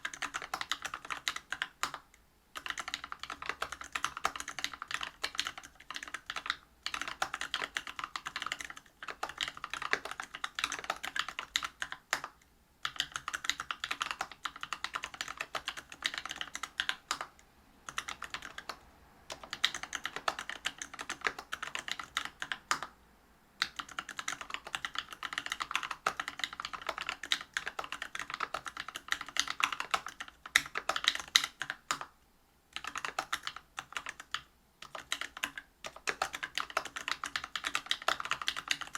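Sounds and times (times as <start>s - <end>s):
mechanical keyboard typing: 0.0s - 22.9s, 23.6s - 38.9s.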